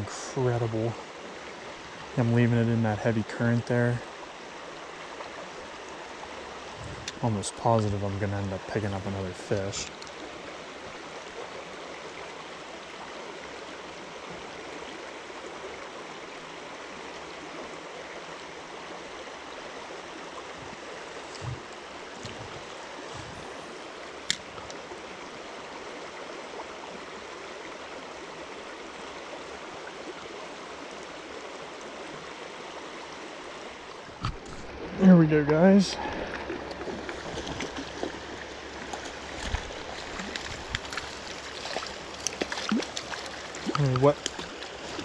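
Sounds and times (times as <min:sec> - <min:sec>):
stream rushing over riffles: 0:00.0 - 0:45.0.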